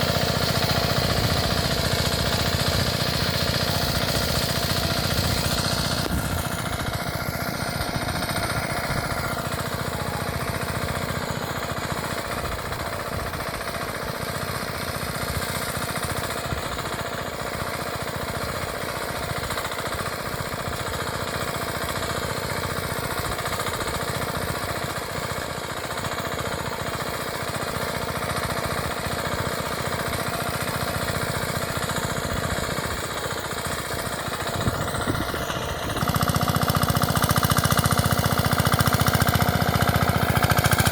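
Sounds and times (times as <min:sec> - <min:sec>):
power tiller engine putter: 0:00.0 - 0:40.9.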